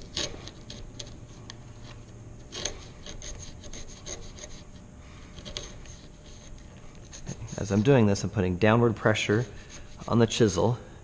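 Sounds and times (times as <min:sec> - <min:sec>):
chisel scraping wood: 0:00.0 - 0:08.1, 0:09.0 - 0:10.6.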